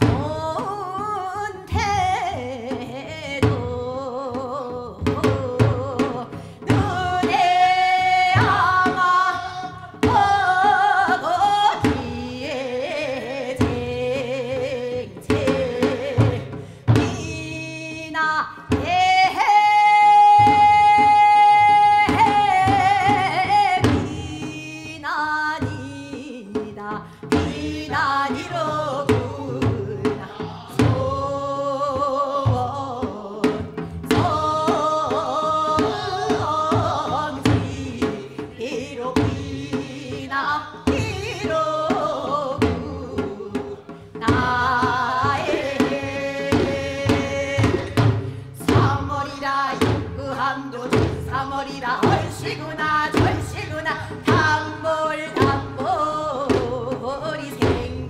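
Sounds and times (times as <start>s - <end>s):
drum strokes: 0.0s - 58.0s
woman singing with vibrato: 0.0s - 58.0s.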